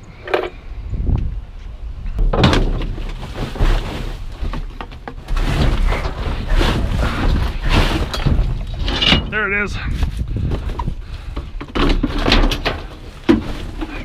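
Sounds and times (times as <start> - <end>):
rummaging through trash: 2.2 - 14.0.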